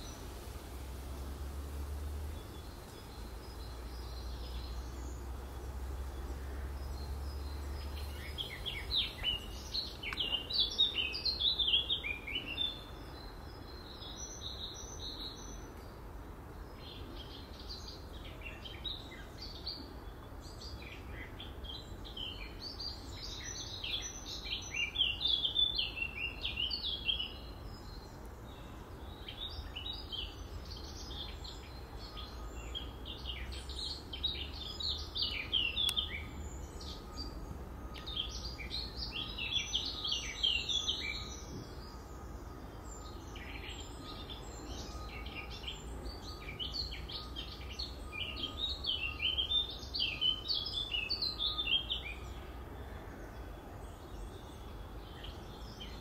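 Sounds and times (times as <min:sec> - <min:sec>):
low steady background rumble: 0:00.0 - 0:56.0
songbirds chirping and singing: 0:00.0 - 0:56.0.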